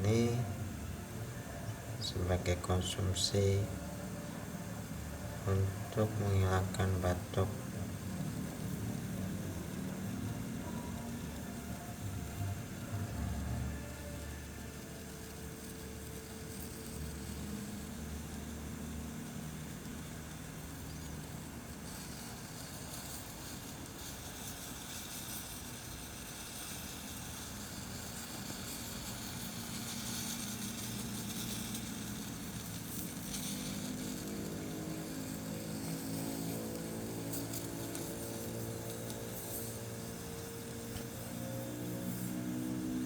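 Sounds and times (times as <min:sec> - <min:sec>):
gas flame hissing: 0:00.0 - 0:43.0.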